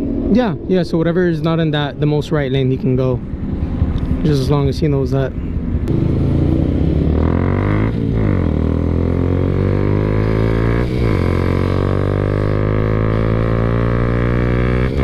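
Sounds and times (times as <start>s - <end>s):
motorcycle engine accelerating: 0.0s - 4.2s, 5.8s - 15.0s.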